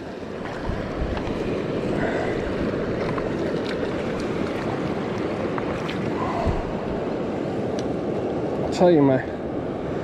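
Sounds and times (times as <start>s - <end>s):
fast-flowing creek water: 0.0s - 10.0s.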